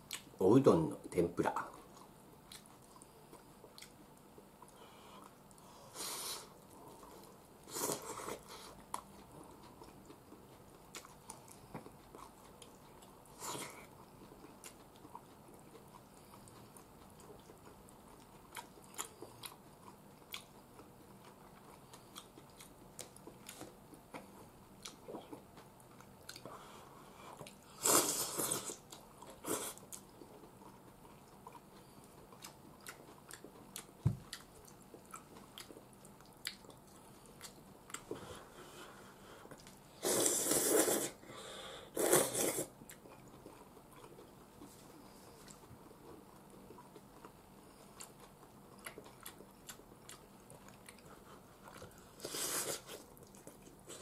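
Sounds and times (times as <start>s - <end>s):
chewing and mouth noises: 1.7s - 5.8s, 6.4s - 41.2s, 42.0s - 54.0s.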